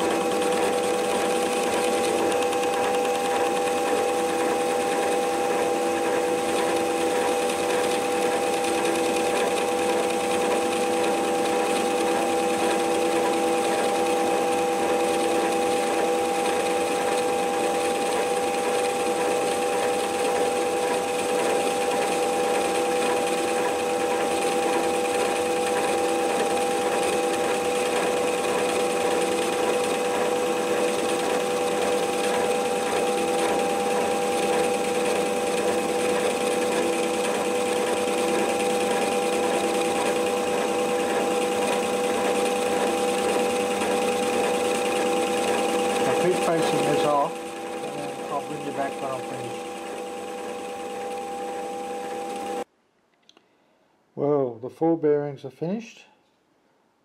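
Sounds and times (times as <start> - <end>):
metal lathe whining: 0.0 - 52.7.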